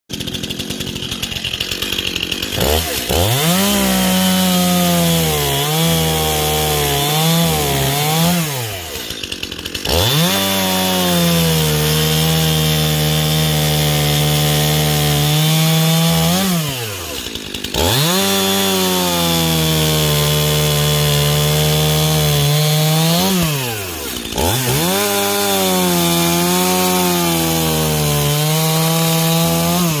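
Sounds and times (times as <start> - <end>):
chainsaw cutting wood: 0.1 - 30.0.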